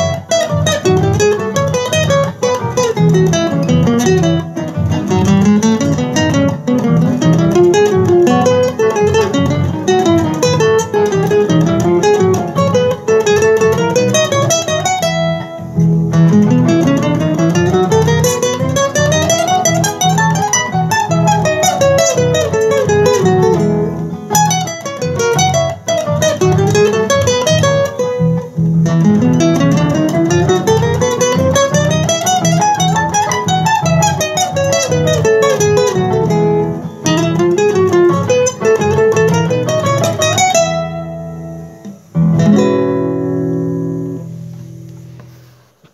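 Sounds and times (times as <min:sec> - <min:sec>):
solo classical guitar: 0:00.0 - 0:45.9.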